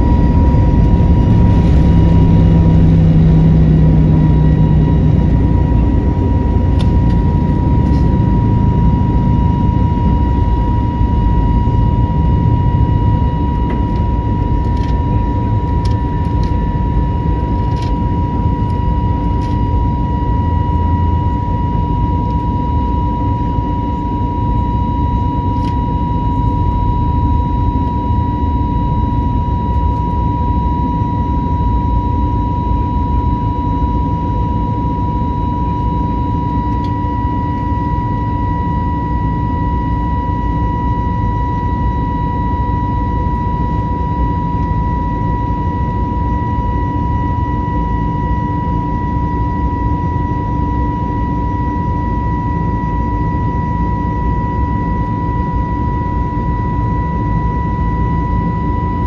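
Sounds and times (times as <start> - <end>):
high-pitched whine: 0.0 - 59.0
jet engine and airflow rumble: 0.0 - 59.0
lower hum: 0.0 - 59.0.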